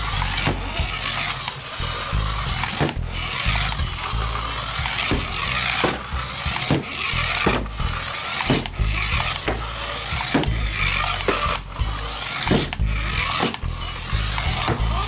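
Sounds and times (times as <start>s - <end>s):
toy car motor whirring: 0.0s - 15.0s.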